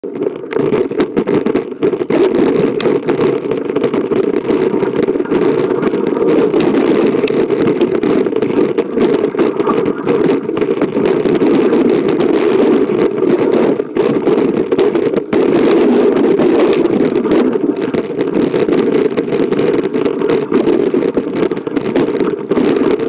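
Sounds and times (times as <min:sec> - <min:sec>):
wind buffeting microphone: 0:01.4 - 0:23.0.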